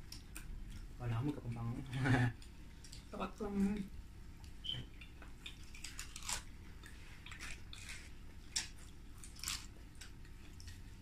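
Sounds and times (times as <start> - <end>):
people chewing crunchy food: 0.0 - 11.0.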